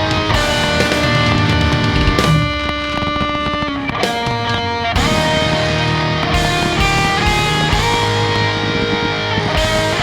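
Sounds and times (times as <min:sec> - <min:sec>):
rock music with electric guitar: 0:00.0 - 0:10.0.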